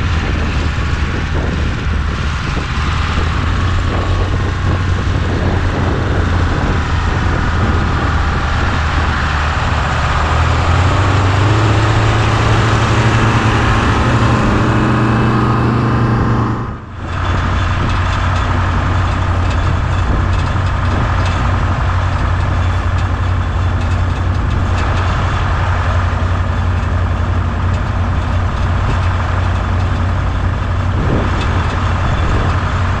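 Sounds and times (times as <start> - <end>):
diesel engines running: 0.0 - 33.0.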